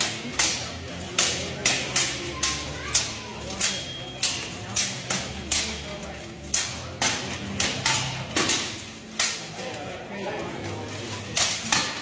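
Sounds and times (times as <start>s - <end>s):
swords clashing: 0.0s - 9.6s, 11.2s - 12.0s.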